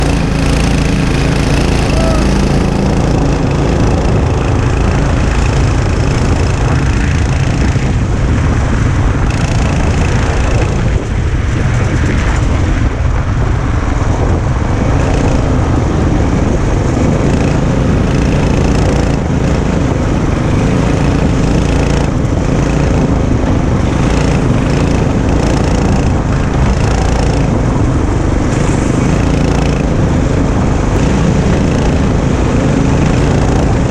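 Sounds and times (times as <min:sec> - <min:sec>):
go-kart engines buzzing: 0:00.0 - 0:33.9.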